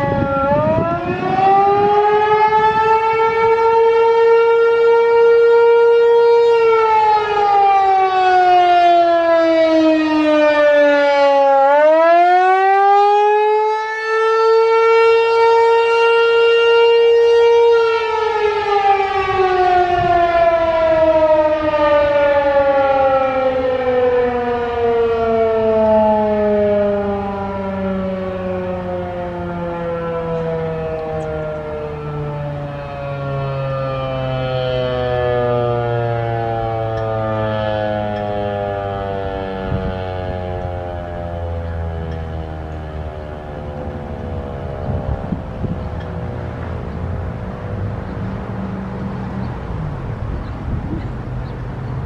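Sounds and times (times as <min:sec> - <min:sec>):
warning siren steady tone: 0:00.0 - 0:52.0.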